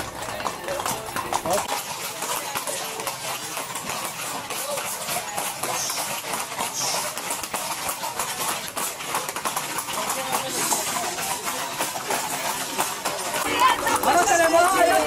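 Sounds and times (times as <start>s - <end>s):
horse hooves clattering on pavement: 0.0s - 15.0s
voices in background: 0.0s - 15.0s.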